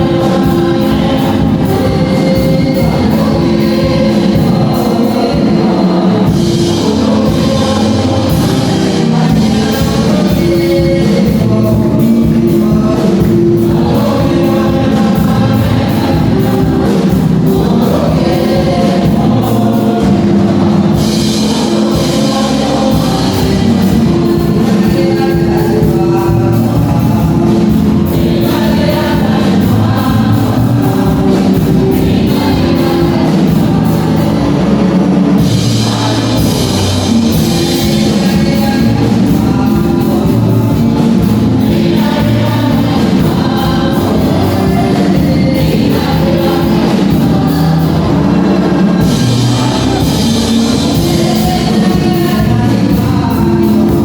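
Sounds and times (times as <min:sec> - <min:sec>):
choir singing gospel music: 0:00.0 - 0:54.0
steady beat: 0:00.0 - 0:54.0.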